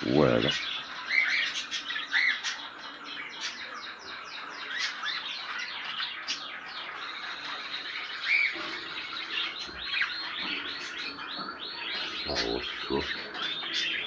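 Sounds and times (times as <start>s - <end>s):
cage birds chirping and squawking: 0.0s - 14.0s.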